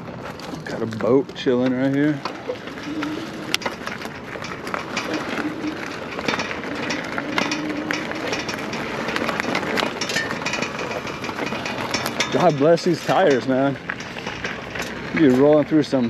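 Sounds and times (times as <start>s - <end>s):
bike rattling: 0.0s - 16.0s
tyres crunching over gravel: 0.0s - 16.0s.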